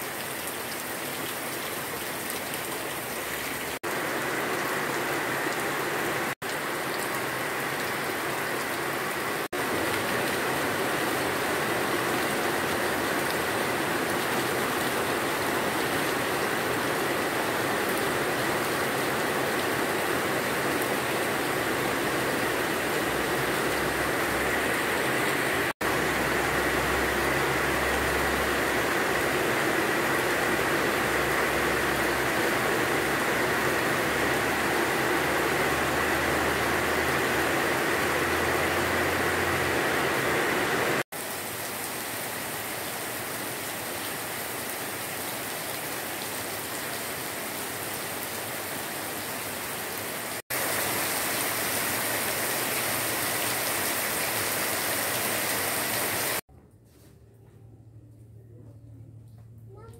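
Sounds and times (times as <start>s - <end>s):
heavy rain falling: 0.0s - 56.4s
runoff streaming over stones: 0.0s - 56.4s.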